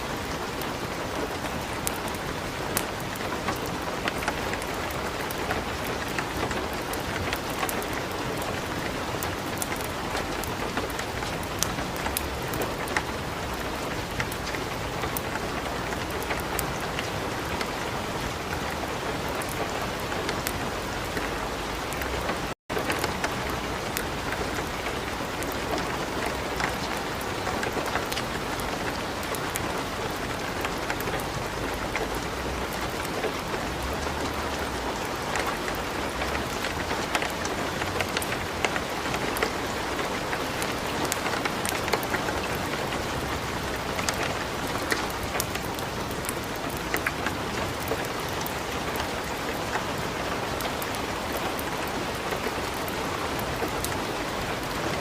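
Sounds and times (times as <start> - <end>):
light rain: 0.0 - 55.0
wood fire crackling: 0.2 - 49.9.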